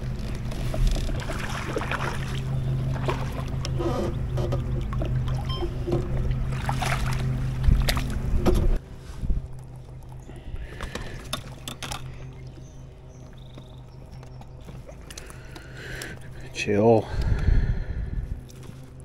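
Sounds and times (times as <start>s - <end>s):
water rushing along hull: 0.0s - 17.5s.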